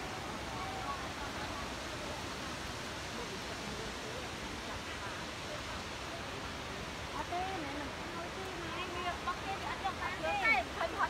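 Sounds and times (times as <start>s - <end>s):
faint voices: 0.0s - 11.0s
waterfall rushing: 0.0s - 11.0s.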